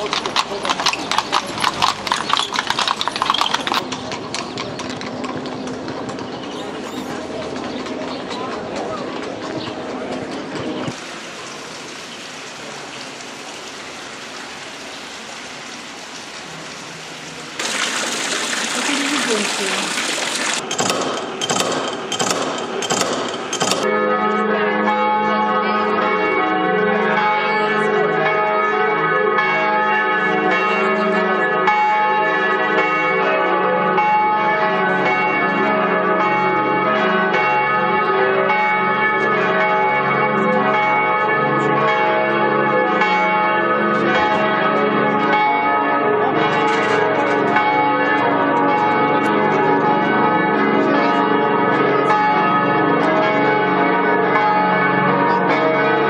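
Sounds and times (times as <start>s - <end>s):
large church bells pealing: 0.0s - 10.9s, 20.6s - 56.0s.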